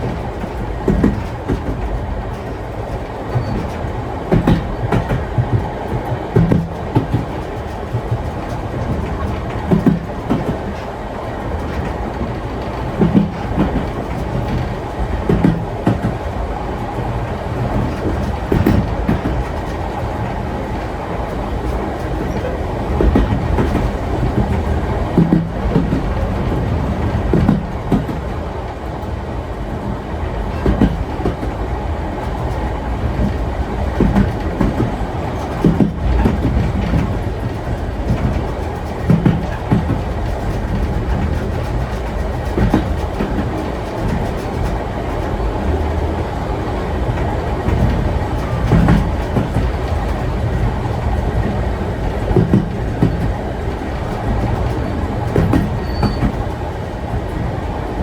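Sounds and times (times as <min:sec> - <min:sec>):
steam train rumbling: 0:00.0 - 0:58.0
train wheels clacking over rail joints: 0:00.0 - 0:58.0.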